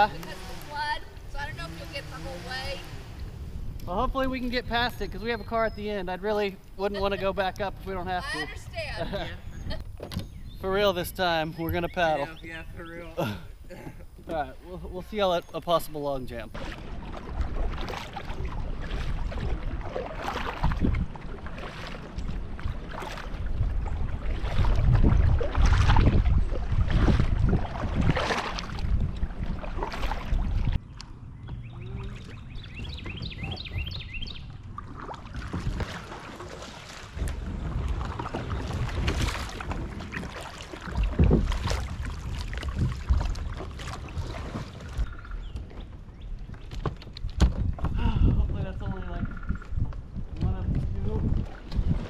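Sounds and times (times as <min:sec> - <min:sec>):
wind on microphone: 0:00.0 - 0:15.2, 0:16.4 - 0:52.0
kayak paddle splashing: 0:00.0 - 0:48.6, 0:49.3 - 0:52.0.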